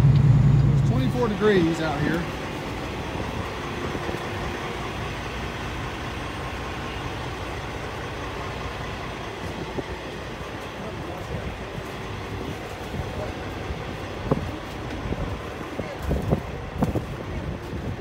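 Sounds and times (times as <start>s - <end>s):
truck rumbling down road: 0.0s - 18.0s.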